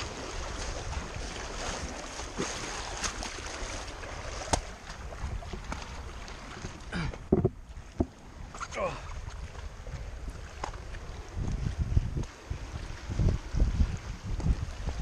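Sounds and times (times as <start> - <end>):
waves lapping against rocks: 0.0 - 15.0
wind on microphone: 0.0 - 15.0.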